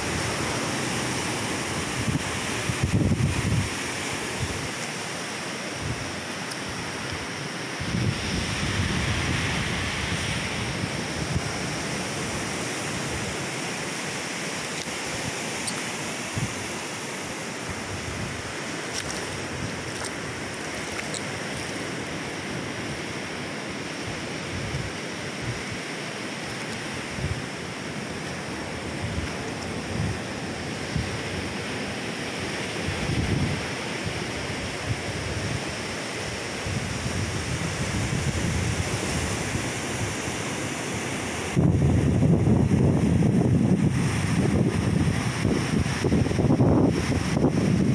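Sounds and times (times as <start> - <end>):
wind buffeting microphone: 0.0 - 4.8, 5.8 - 13.6, 15.0 - 16.8, 17.5 - 25.9, 27.0 - 47.9
sea surf rushing: 0.0 - 47.9.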